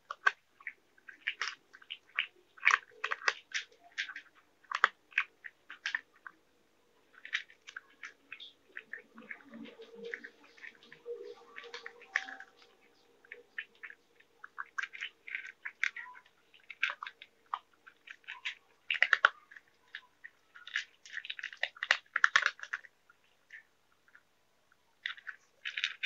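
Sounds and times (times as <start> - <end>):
cats crunching dry kibble: 0.0 - 26.0.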